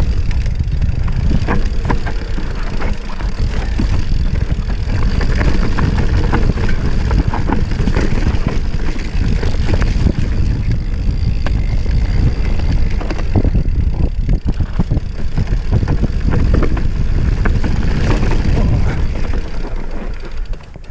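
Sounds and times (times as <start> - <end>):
bike rattling and knocking: 0.0 - 20.9
wind buffeting microphone: 0.0 - 20.9.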